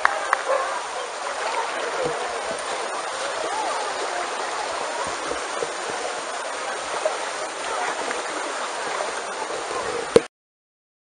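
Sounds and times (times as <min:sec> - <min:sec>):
faint voices: 0:00.0 - 0:10.3
water splashing in shallow pool: 0:00.0 - 0:10.3.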